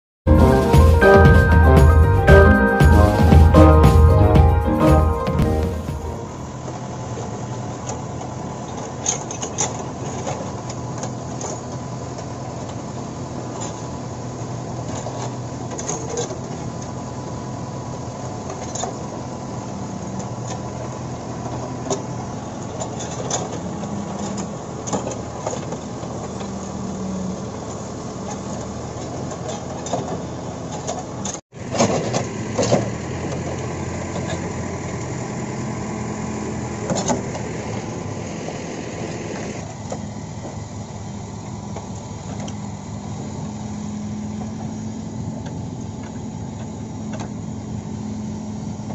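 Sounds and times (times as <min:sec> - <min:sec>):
diesel engine running: 0:00.3 - 0:48.9.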